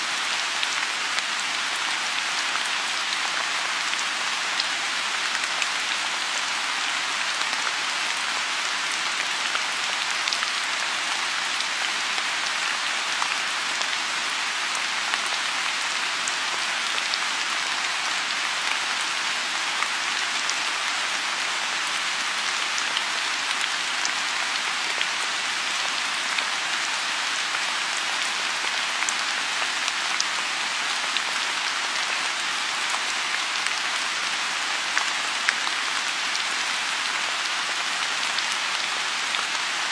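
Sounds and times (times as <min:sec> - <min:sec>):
rain falling on pond: 0:00.0 - 0:39.9.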